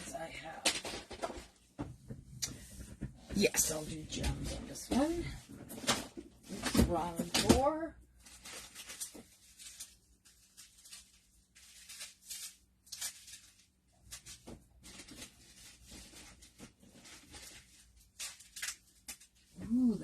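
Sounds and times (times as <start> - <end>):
rustling of packets: 3.6 - 20.0.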